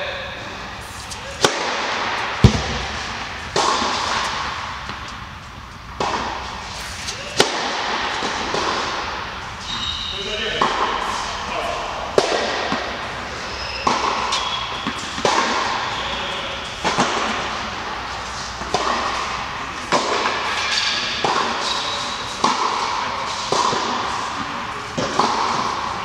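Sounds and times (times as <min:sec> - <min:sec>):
tennis balls struck with racquets: 0:00.8 - 0:26.0.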